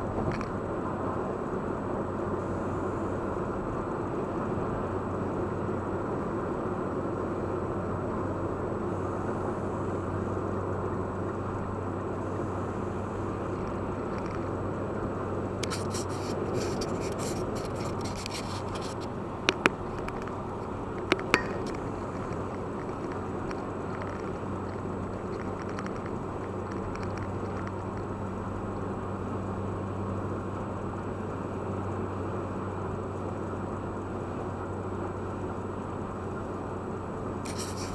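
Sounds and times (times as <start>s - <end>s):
car tyre and engine drone: 0.0s - 37.9s.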